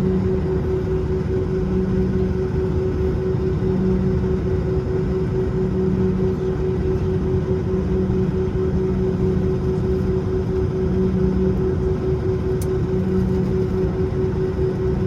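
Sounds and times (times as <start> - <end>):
low jet engine hum: 0.0 - 15.0.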